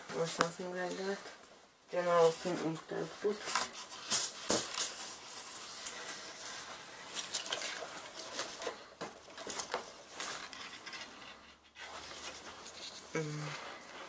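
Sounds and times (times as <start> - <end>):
foil rustling and crinkling: 2.0 - 14.0.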